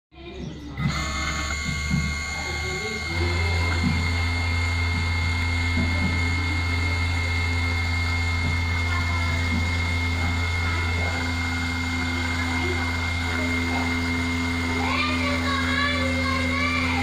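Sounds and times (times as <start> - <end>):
cnc router spindle humming and whining: 0.7 - 17.0
engraving bit cutting metal: 0.8 - 17.0.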